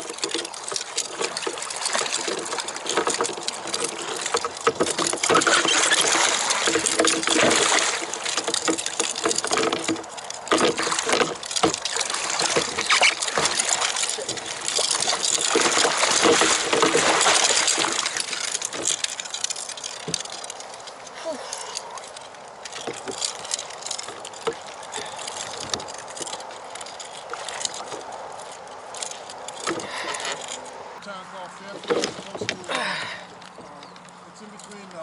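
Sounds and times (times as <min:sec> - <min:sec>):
water splashing around kayak: 0:00.0 - 0:35.0.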